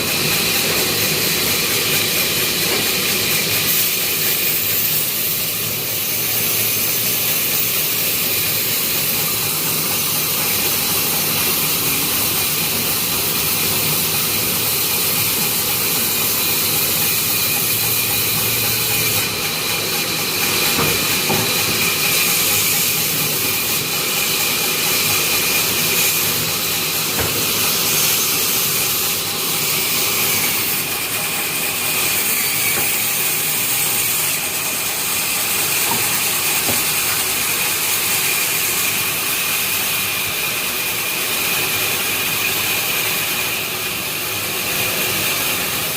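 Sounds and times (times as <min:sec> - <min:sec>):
saw cutting timber: 0:00.0 - 0:45.9.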